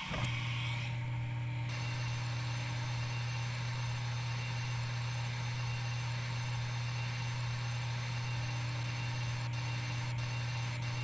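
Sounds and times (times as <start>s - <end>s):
milling machine hum: 0.0s - 11.0s.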